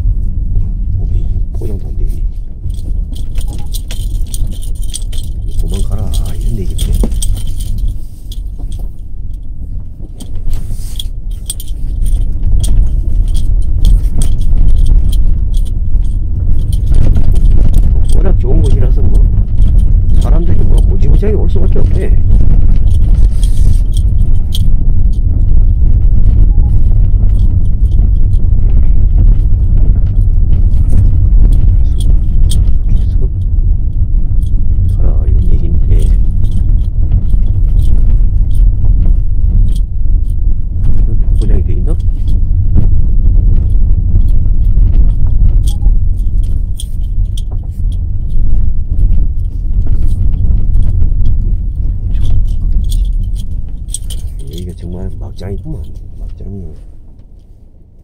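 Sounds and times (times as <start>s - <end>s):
car engine and road rumble: 0.0s - 58.0s
light clicks and rattles: 0.5s - 58.0s.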